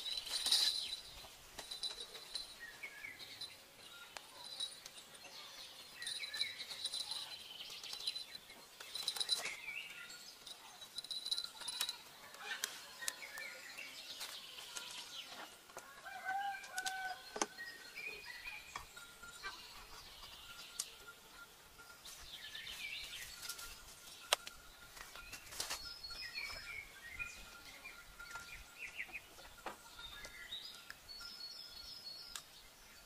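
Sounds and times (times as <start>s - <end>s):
birds chirping and calling: 0.0s - 33.0s.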